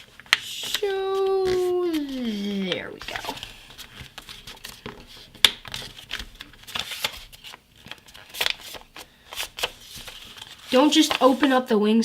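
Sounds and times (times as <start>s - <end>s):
paper rustling and crackling: 0.0s - 11.7s.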